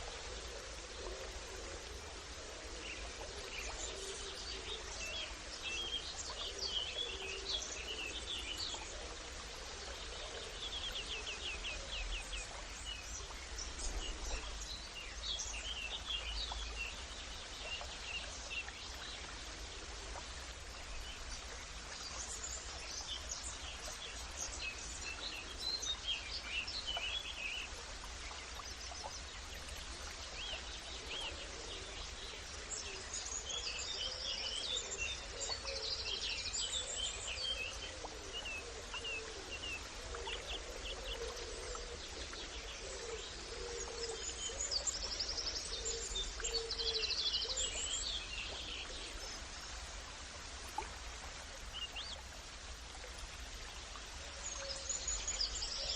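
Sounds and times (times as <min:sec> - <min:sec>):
background hiss and rumble: 0:00.0 - 0:55.9.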